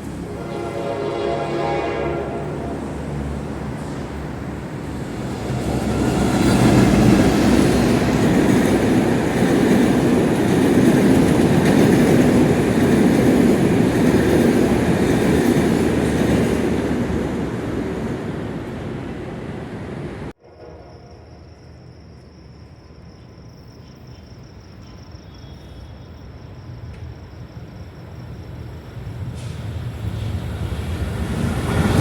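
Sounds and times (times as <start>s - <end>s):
passenger train passing: 0.0s - 32.0s.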